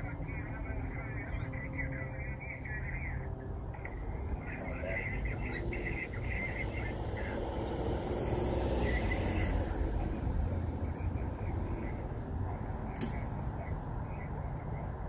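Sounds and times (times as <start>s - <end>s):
pickup truck driving past: 0.0s - 12.9s.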